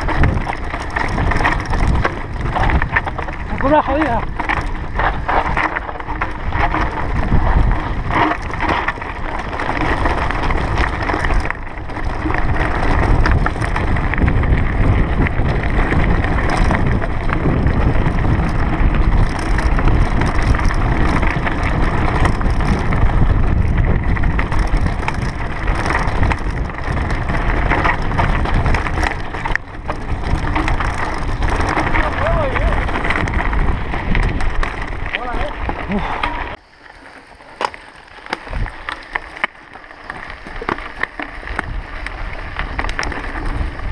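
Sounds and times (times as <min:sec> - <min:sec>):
bike clattering on bumps: 0:00.0 - 0:43.9
bike tyres crunching over stones: 0:00.0 - 0:43.9
wind rumbling on microphone: 0:00.0 - 0:43.9.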